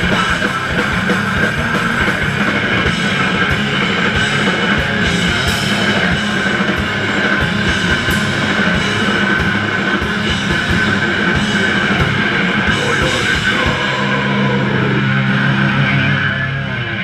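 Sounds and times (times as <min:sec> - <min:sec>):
punk band playing live: 0:00.0 - 0:17.0.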